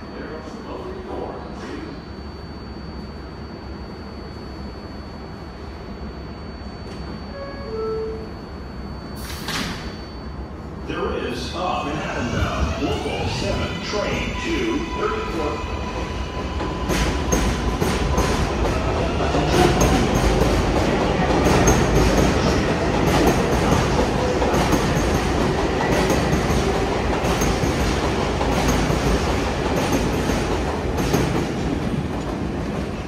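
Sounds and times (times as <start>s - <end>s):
subway train running by: 0.0s - 33.0s.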